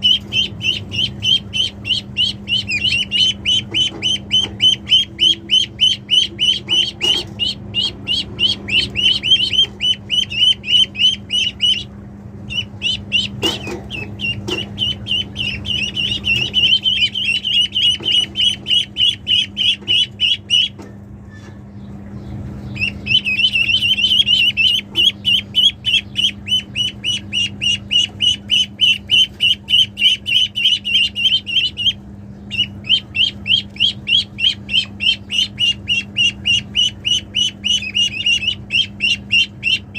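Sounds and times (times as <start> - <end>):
ducklings peeping: 0.0 - 39.9
steady low hum: 0.0 - 39.9.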